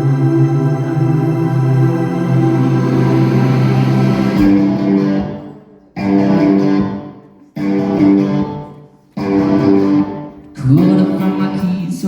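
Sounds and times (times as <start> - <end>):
guitar chords ringing out: 0.0 - 10.4.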